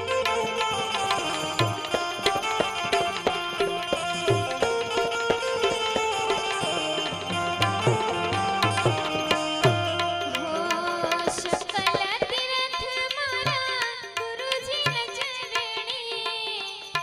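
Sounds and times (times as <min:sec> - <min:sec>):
tabla strokes: 0:00.0 - 0:17.0.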